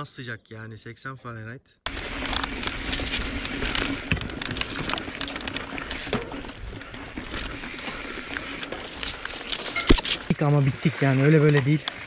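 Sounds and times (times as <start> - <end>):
bike clicking and rattling: 1.9 - 12.0
bike tyres on loose dirt: 1.9 - 12.0.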